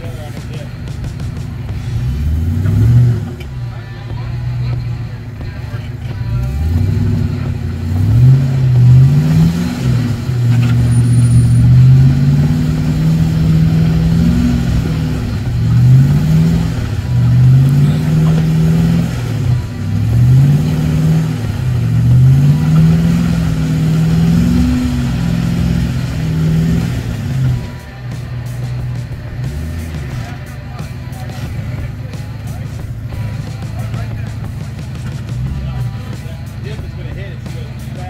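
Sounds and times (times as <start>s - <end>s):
engine revving: 0.0s - 38.0s.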